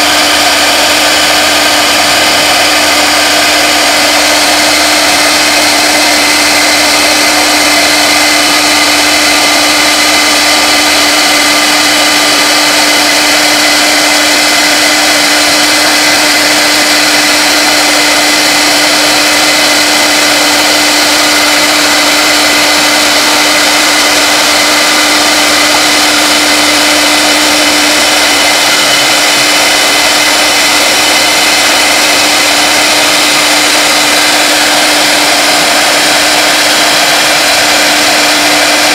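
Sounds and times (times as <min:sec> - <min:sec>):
bit milling plastic sheet: 0:00.0 - 0:38.9
router spindle whining: 0:00.0 - 0:38.9.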